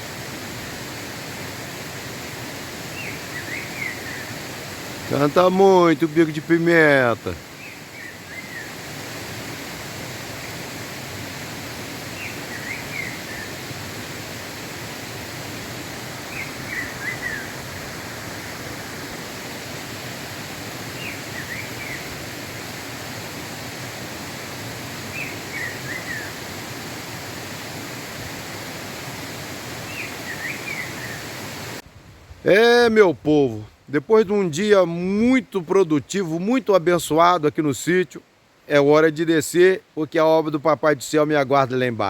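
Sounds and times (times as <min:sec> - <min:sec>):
steady rushing hiss: 0:00.0 - 0:42.0.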